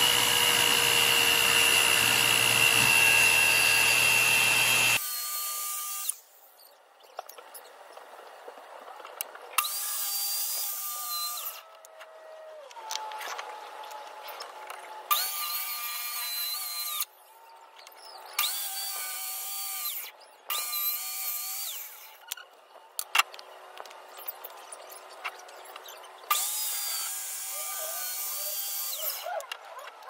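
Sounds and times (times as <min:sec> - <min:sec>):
circular saw cutting wood: 0:00.0 - 0:06.6, 0:09.6 - 0:22.4, 0:24.1 - 0:30.0.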